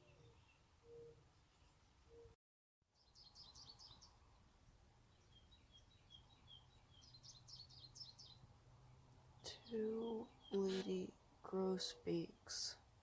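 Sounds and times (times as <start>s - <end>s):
faint songbird chirps and twitters: 0.0s - 13.0s.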